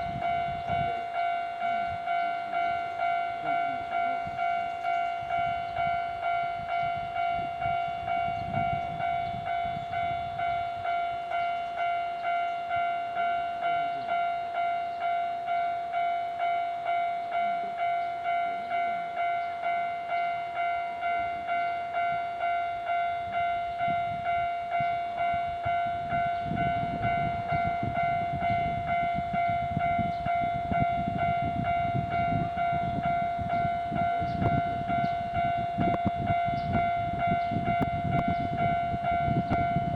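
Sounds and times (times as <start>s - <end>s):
level crossing warning bell: 0.0s - 39.9s
low train rumble: 0.0s - 39.9s.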